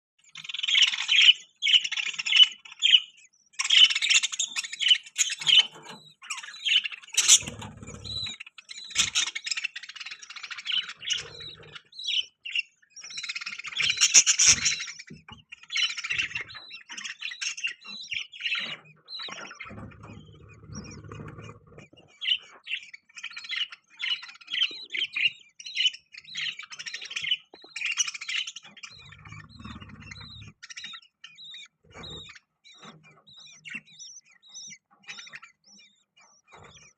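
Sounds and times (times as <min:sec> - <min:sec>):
budgerigars chirping: 0:00.2 - 0:36.9.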